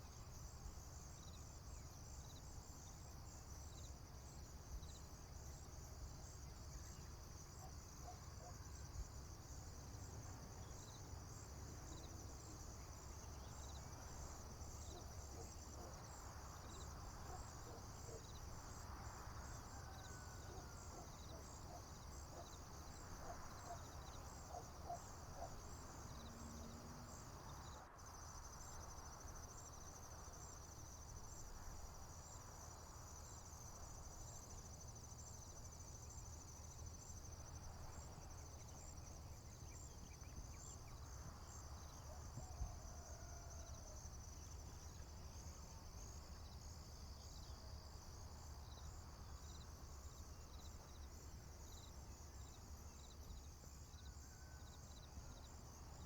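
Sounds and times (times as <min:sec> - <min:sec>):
crickets and insects trilling: 0:00.2 - 0:56.0.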